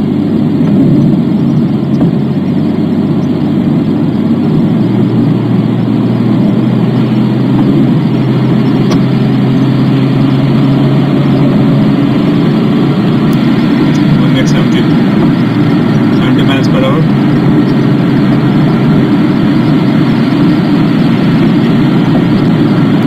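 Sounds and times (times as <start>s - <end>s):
car engine accelerating: 0.0s - 23.0s
road rumble: 0.0s - 23.0s.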